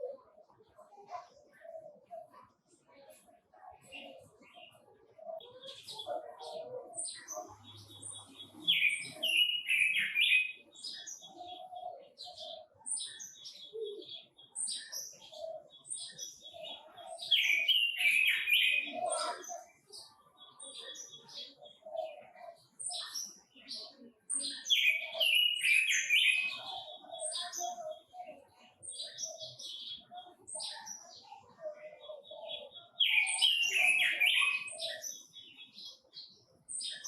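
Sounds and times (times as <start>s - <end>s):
birds chirping and warbling: 0.0s - 37.0s.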